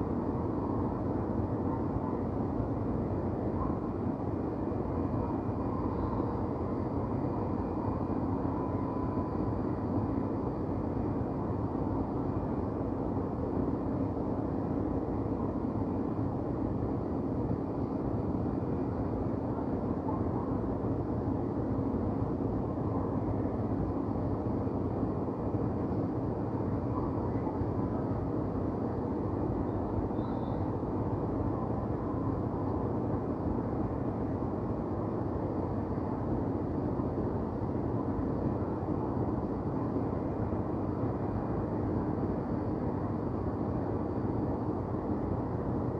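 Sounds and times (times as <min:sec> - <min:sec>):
constant mechanical hum: 0:00.0 - 0:45.9
distant traffic: 0:00.0 - 0:45.9.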